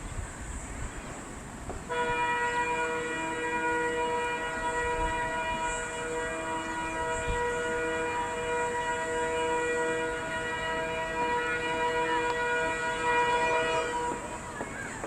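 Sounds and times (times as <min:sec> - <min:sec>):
locomotive air horn blast: 0:01.9 - 0:15.0.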